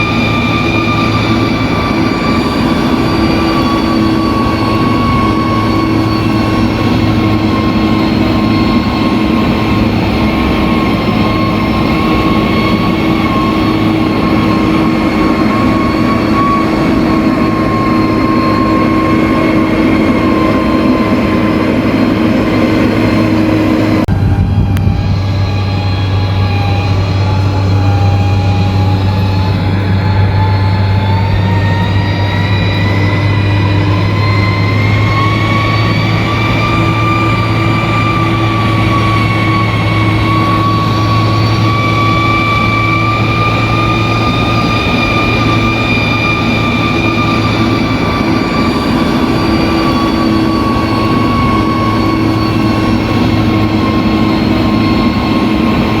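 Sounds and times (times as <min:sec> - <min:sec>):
rising whine: 0:00.0 - 0:56.0.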